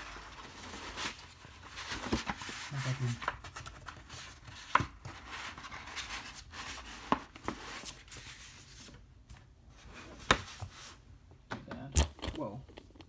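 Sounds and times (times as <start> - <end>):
paper poster rustling: 0.0 - 11.0.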